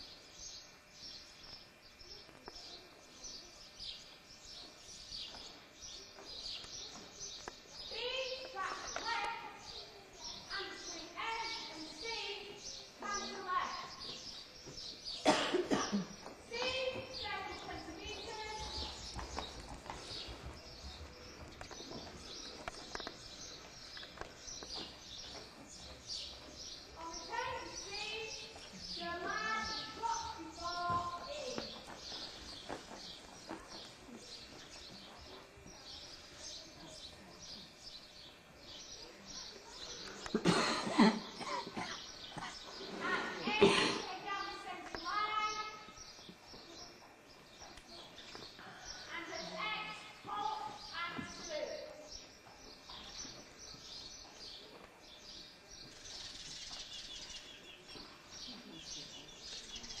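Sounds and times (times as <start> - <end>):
room background noise: 0.0 - 60.0
small birds chirping: 0.0 - 60.0.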